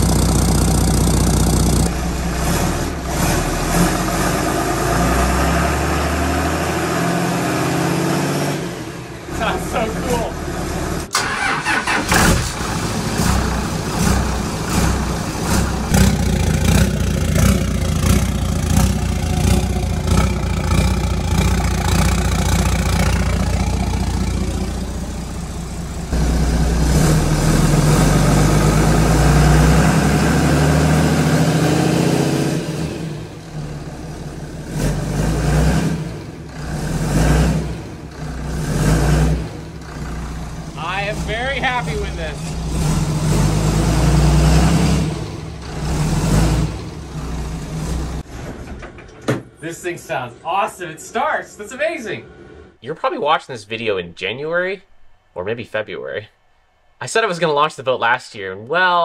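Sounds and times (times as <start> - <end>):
diesel engine clattering and revving: 0.0 - 49.2.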